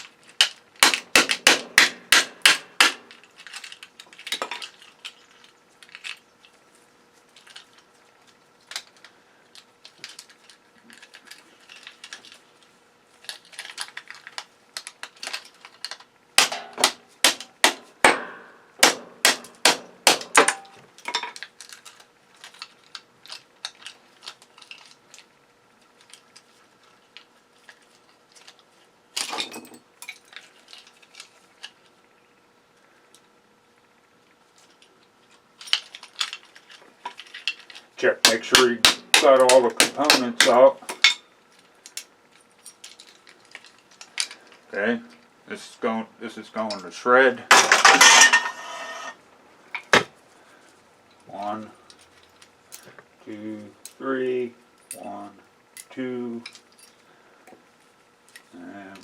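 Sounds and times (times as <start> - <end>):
clicks and rattles of small parts: 0.0 - 1.6, 2.2 - 17.8, 19.4 - 32.0, 34.4 - 45.3, 46.6 - 50.1, 51.1 - 53.1, 54.6 - 59.0.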